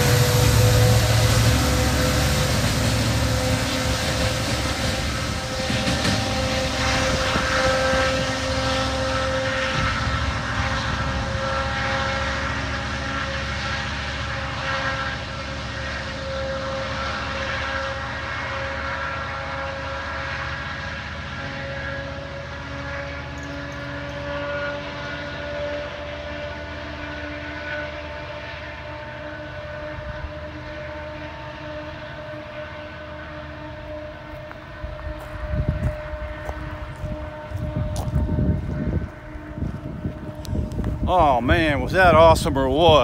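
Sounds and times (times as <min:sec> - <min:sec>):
diesel locomotive engine drone: 0:00.0 - 0:43.0.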